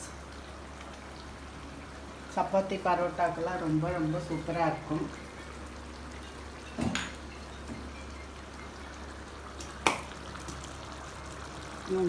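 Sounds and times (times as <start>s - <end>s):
gravy simmering and bubbling: 0.0s - 12.0s.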